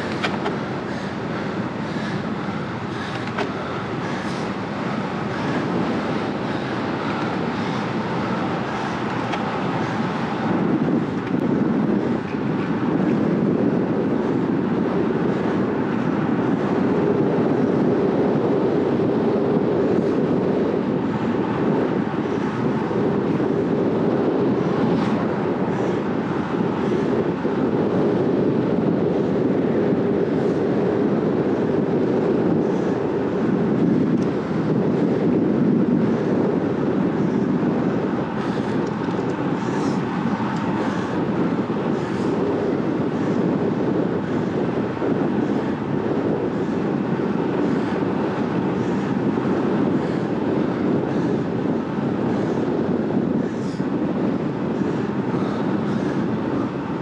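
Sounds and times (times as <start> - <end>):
bike tyres humming on asphalt: 0.0 - 57.0
wind rushing over microphone: 0.0 - 57.0.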